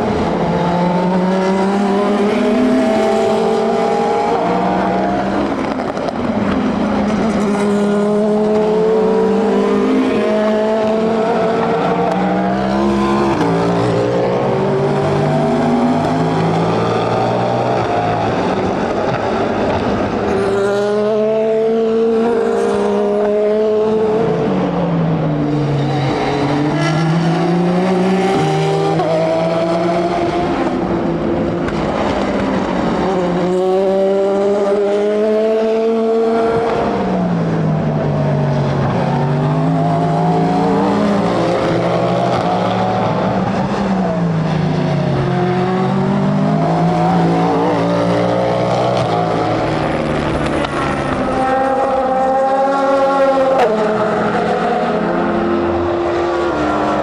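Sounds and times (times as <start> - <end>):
race car engines accelerating: 0.0 - 57.0.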